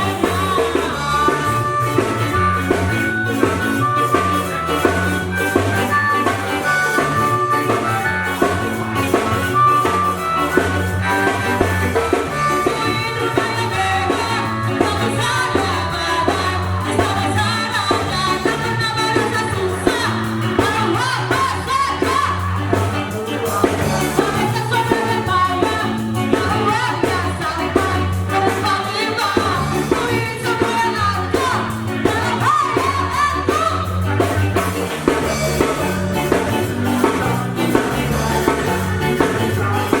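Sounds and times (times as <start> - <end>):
person singing: 0.0 - 40.0
ska band playing live: 0.0 - 40.0.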